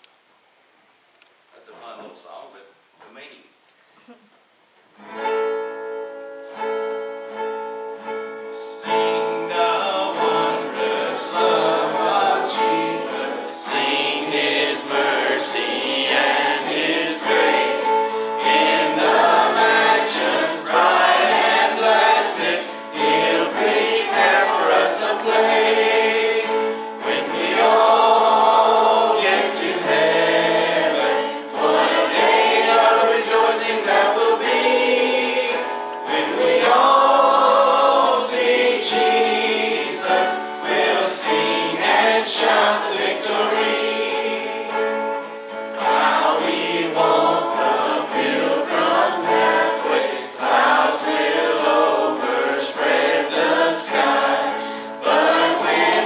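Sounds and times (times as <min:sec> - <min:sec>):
acoustic guitar: 0:03.8 - 0:56.0
group singing gospel song: 0:08.0 - 0:56.0.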